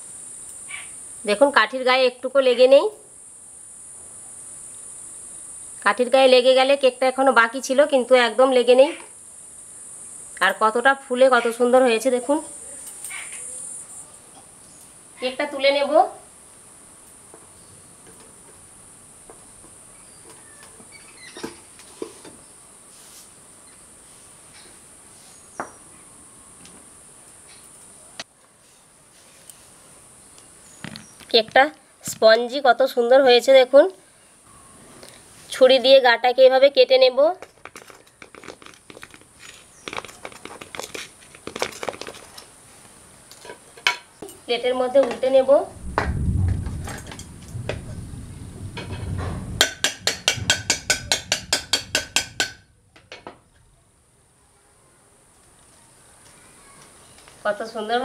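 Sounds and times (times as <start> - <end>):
insects chorus: 0.0 - 28.3, 29.4 - 58.0.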